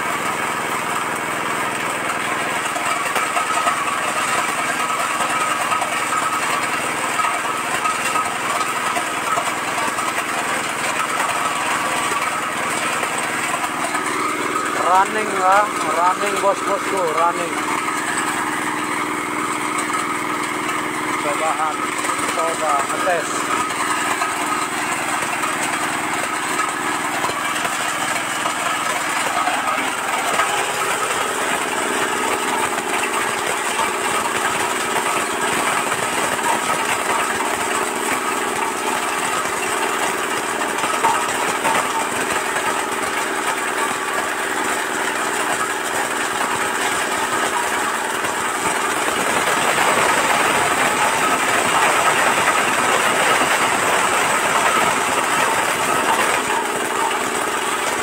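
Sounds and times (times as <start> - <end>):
machine engine drone: 0.0 - 58.0.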